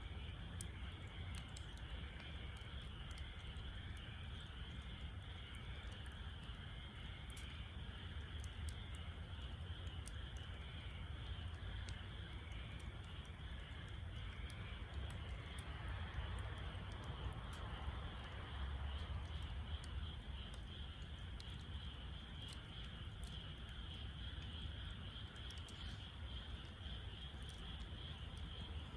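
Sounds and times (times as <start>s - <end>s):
insects trilling: 0.0s - 28.9s
steady low rumble: 0.0s - 28.9s
wood fire crackling and popping: 0.0s - 28.9s.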